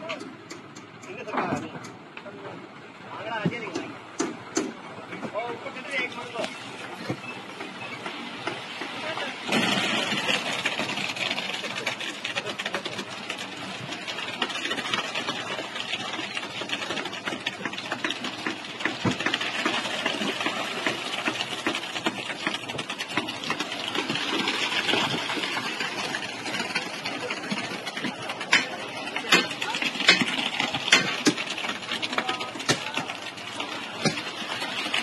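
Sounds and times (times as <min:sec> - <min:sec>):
engine running: 0:00.0 - 0:35.0
fast mechanical clatter: 0:05.4 - 0:35.0.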